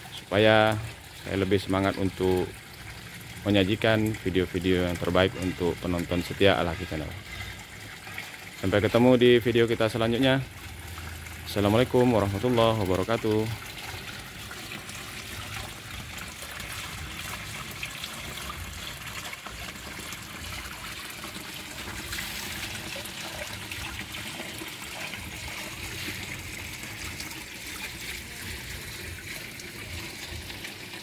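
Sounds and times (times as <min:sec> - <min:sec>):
water trickling into pond: 0:00.0 - 0:31.0.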